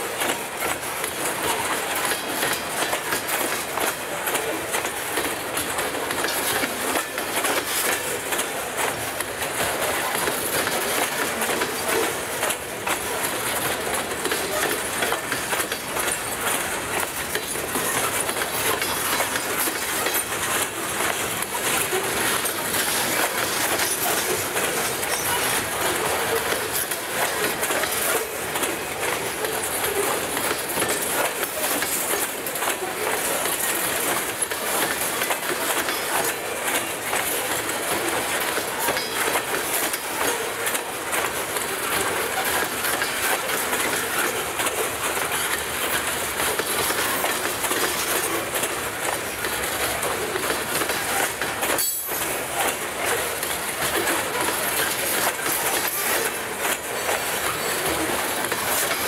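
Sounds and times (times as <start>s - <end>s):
rail clicks: 0.0s - 59.0s
train wheels rolling on rails: 0.0s - 59.0s.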